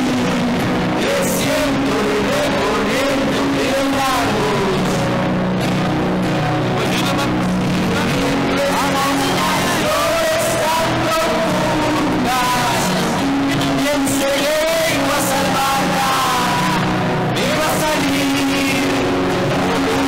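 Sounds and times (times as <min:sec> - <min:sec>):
person singing: 0:00.0 - 0:05.2, 0:07.8 - 0:20.0.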